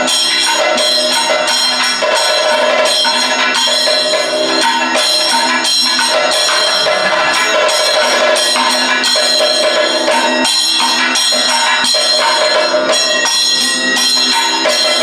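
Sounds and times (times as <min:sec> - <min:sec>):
gong struck: 0:00.0 - 0:13.6
drums: 0:00.0 - 0:15.0
metal hand cymbals ringing: 0:00.0 - 0:15.0.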